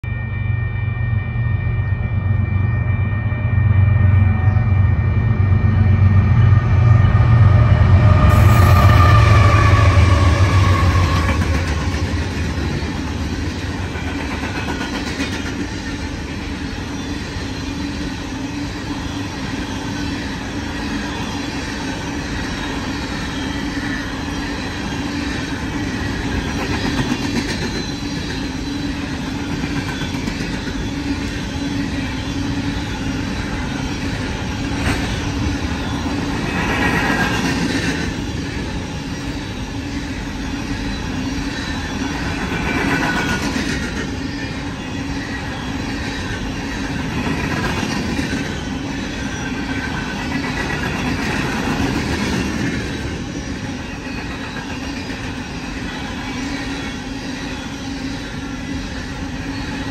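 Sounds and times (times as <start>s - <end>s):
diesel locomotives passing: 0.0s - 59.9s
freight cars rumbling on rails: 0.0s - 59.9s.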